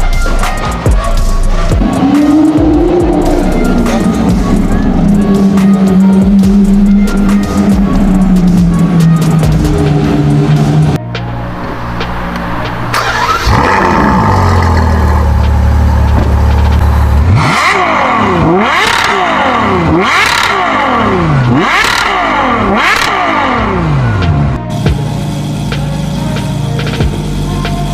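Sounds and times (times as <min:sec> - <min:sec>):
sports car engine revving: 0:00.2 - 0:27.9.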